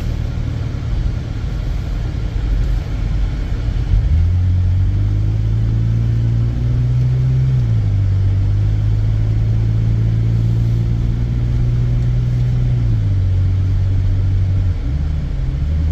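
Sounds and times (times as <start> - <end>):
car engine running: 0.0 - 15.9
tyre and road noise: 0.0 - 15.9.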